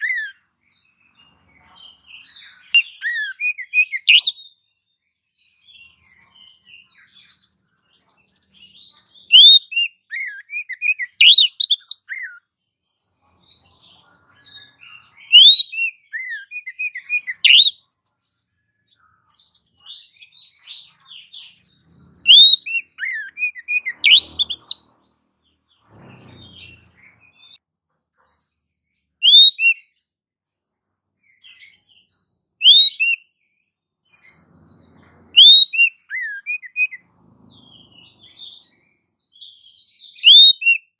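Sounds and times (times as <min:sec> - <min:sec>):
small birds chirping and whistling: 0:00.0 - 0:40.9.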